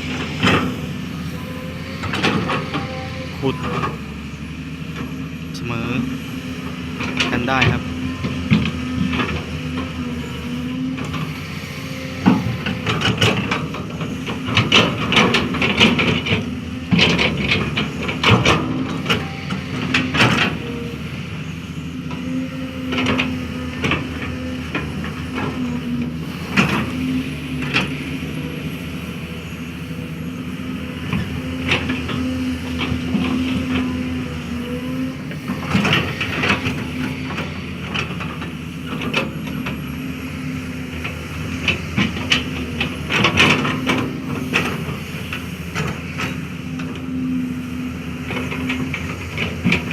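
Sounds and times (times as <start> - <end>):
excavator engine running: 0.0 - 49.9.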